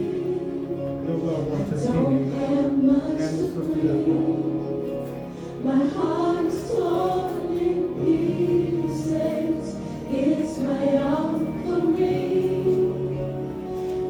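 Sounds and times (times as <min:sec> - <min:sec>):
choir singing gospel song: 0:00.0 - 0:14.0.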